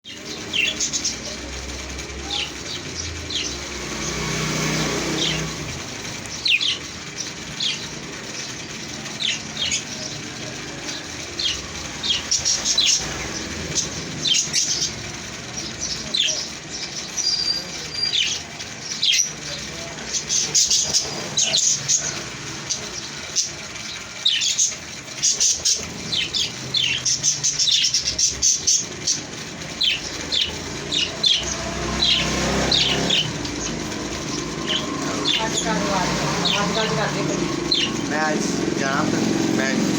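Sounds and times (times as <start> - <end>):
parrots chirping: 0.0 - 39.9.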